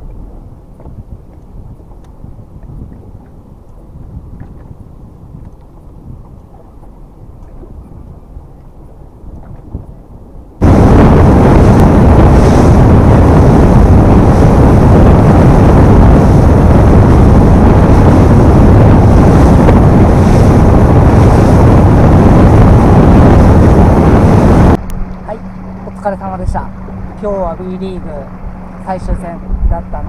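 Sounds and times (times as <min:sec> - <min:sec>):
wind blasting the microphone: 0:00.0 - 0:30.0.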